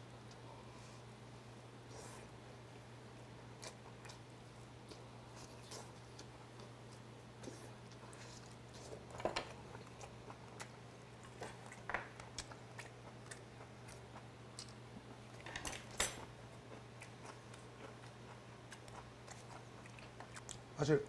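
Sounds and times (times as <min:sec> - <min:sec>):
steady low hum: 0:00.0 - 0:21.0
person chewing food: 0:02.1 - 0:15.4, 0:16.2 - 0:20.7.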